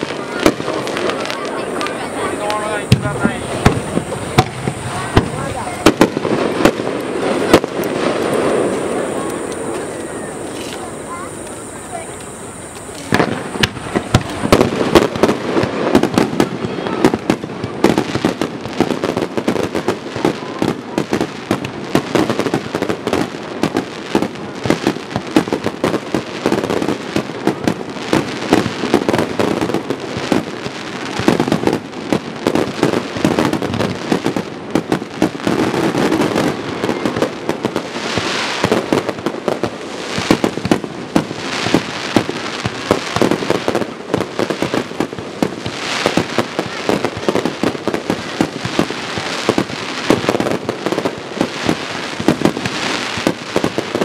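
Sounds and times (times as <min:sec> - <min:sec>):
fireworks bursting: 0:00.0 - 0:54.0
fireworks hiss and crackle: 0:00.0 - 0:54.0.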